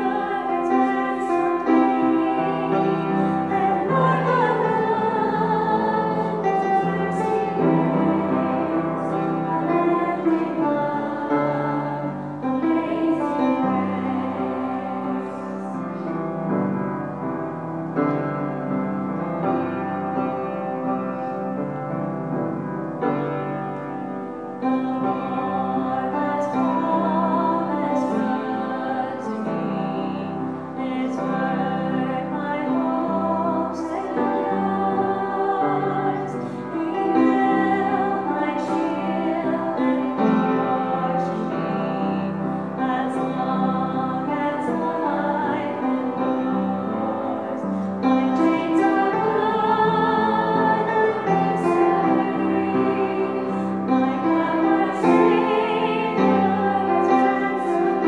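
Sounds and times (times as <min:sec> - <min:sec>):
upright piano playing slowly: 0:00.0 - 0:58.0.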